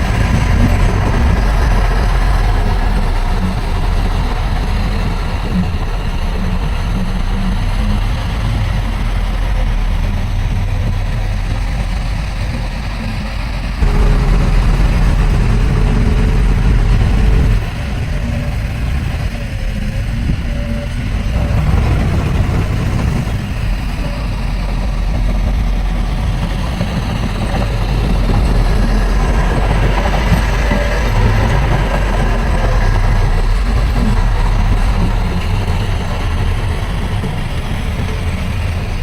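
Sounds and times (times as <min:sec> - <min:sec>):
heavy diesel machinery rumbling: 0:00.0 - 0:39.0.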